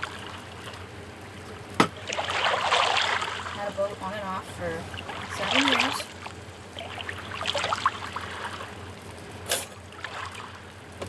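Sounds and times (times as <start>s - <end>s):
liquid pouring with gurgle: 0.0s - 3.8s, 4.9s - 11.0s.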